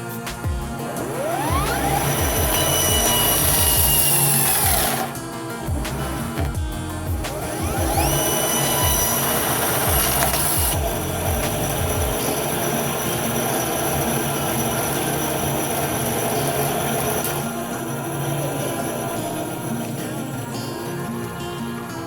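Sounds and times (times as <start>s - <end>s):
power saw cutting a sneaker: 0.0s - 21.1s.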